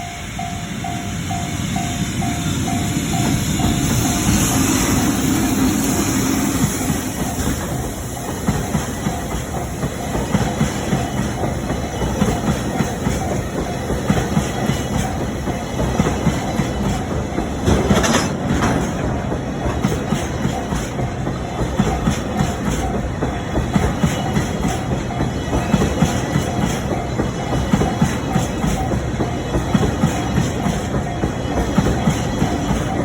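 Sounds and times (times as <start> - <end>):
freight train passing: 0.0 - 33.0.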